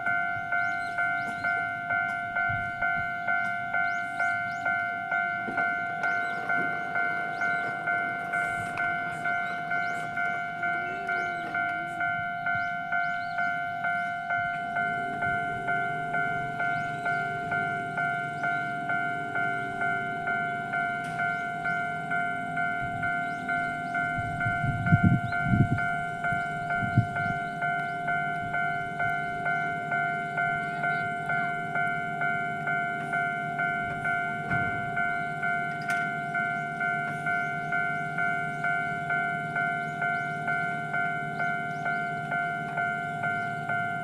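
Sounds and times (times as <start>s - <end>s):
railroad crossing bell dinging: 0.0s - 44.0s
train rumble: 0.0s - 44.0s
train wheels clunking: 0.0s - 44.0s.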